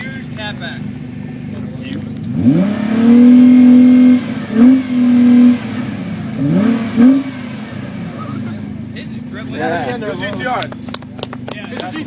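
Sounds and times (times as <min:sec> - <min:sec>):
car engine revving: 0:00.0 - 0:12.0
engine throttle blips: 0:00.0 - 0:12.0.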